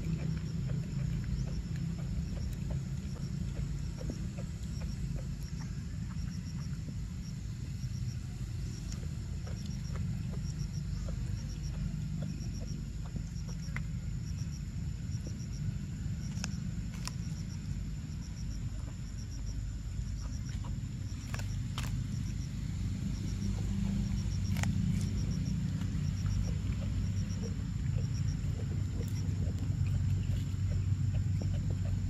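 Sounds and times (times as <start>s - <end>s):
monkey chewing corn crunching: 0.0s - 32.0s.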